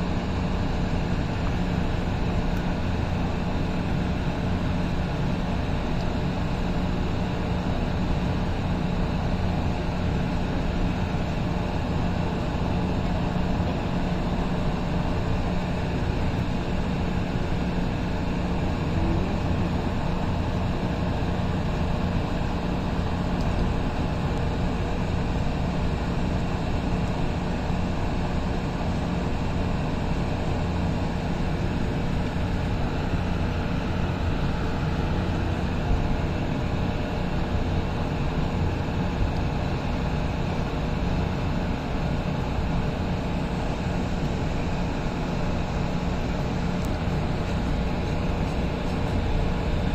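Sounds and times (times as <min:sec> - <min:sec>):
light rail car hum: 0:00.0 - 0:49.9.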